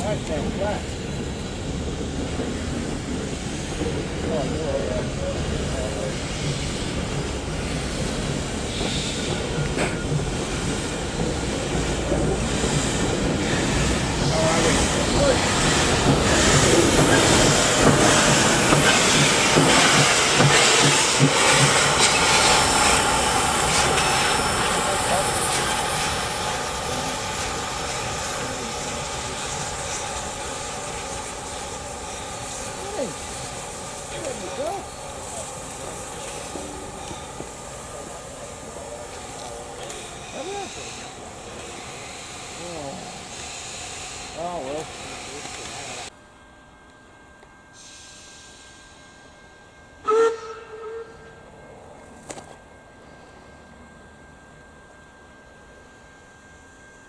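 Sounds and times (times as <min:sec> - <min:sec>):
steam locomotive hissing steam: 0:00.0 - 0:57.0
train wheels rumbling on track: 0:00.0 - 0:57.0.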